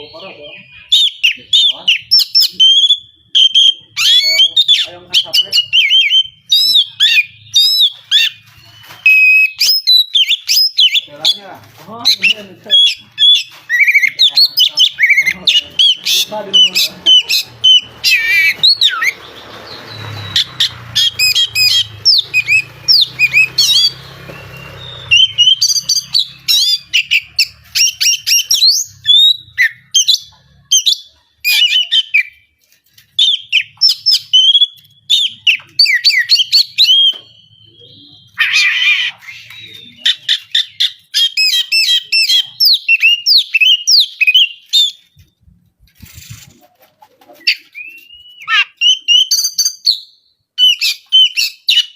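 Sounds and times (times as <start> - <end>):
bird singing varied phrases: 0.0 - 45.4, 47.4 - 51.9.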